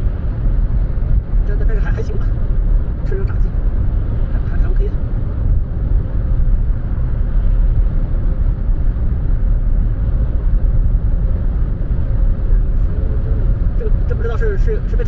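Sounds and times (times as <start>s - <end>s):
tyre and engine rumble: 0.0s - 15.0s.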